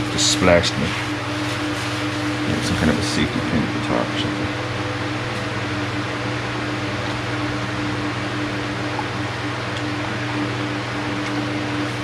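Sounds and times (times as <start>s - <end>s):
machine motor humming: 0.0s - 12.0s.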